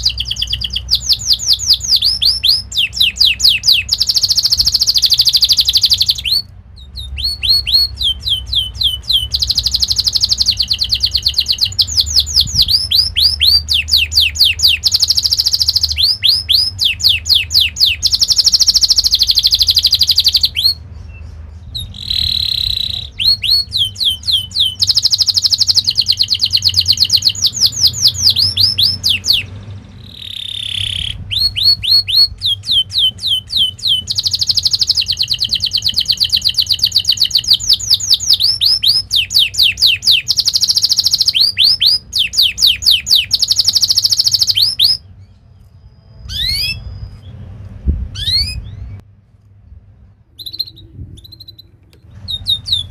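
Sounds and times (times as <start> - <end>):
canary singing: 0.0 - 49.0, 50.3 - 52.9.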